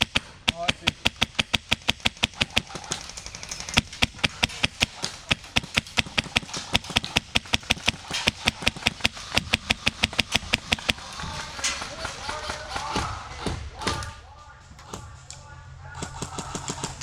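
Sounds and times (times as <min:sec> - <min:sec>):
airsoft rifle firing full auto: 0:00.0 - 0:14.2, 0:16.0 - 0:17.0.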